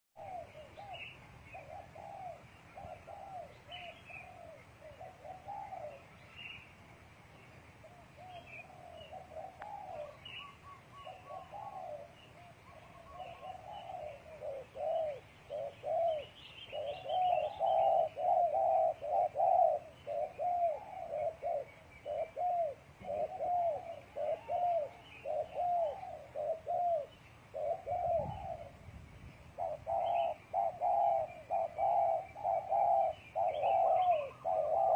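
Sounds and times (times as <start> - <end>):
doves cooing: 0.2 - 6.7, 7.8 - 28.9, 29.5 - 34.9
small birds chirping: 0.2 - 34.9.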